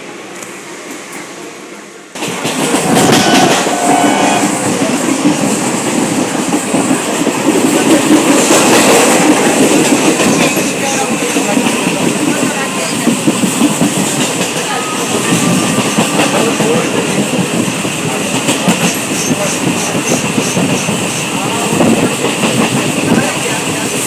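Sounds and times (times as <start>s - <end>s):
train rumbling and clattering on rails: 0.0s - 24.0s.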